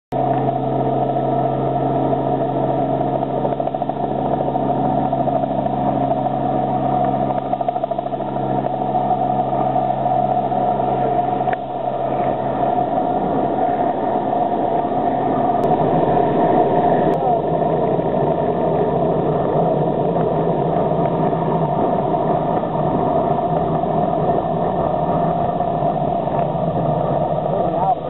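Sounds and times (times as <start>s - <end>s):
helicopter engine and rotor chop: 0.1s - 28.0s.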